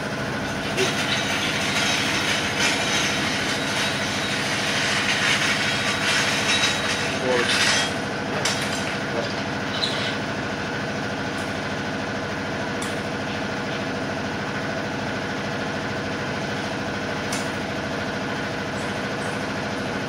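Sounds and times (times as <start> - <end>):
machine humming: 0.0 - 19.7.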